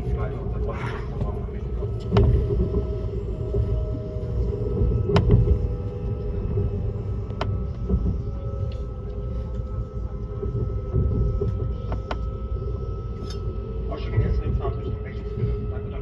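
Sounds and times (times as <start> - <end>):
steady hum: 0.0 - 16.0
train cabin low rumble: 0.0 - 16.0.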